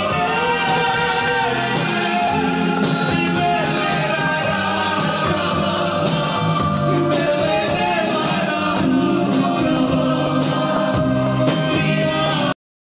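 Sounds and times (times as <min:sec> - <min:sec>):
loud amplified music: 0:00.0 - 0:12.6
man singing into microphone: 0:00.0 - 0:12.6.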